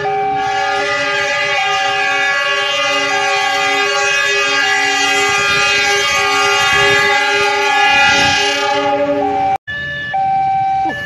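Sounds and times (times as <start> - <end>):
locomotive horn blast: 0.0 - 9.6
train rumbling: 0.0 - 9.6.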